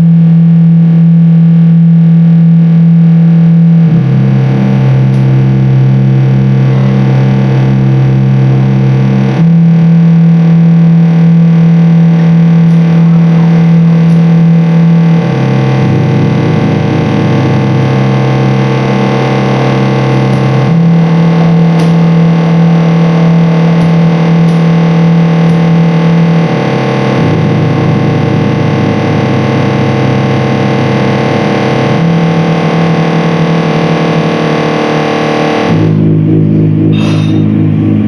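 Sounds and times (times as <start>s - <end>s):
distorted electronic noise music: 0.0s - 38.0s
low drone: 0.0s - 38.0s.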